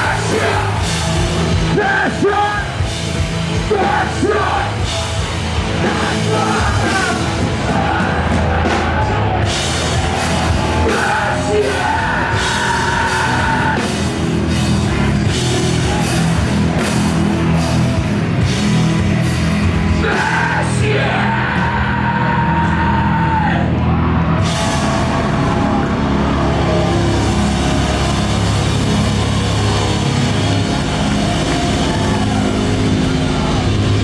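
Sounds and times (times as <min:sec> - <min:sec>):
shouted vocals: 0:00.0 - 0:02.9, 0:03.5 - 0:18.5, 0:19.8 - 0:34.0
distorted guitars: 0:00.0 - 0:34.0
heavy drums: 0:00.0 - 0:34.0.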